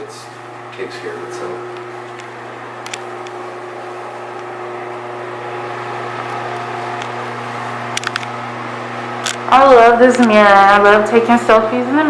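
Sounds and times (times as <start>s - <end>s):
mechanical hum with tones: 0.0s - 12.0s.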